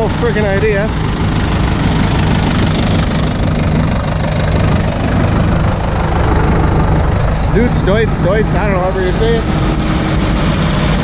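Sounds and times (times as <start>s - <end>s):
tractor engines running: 0.0s - 11.0s.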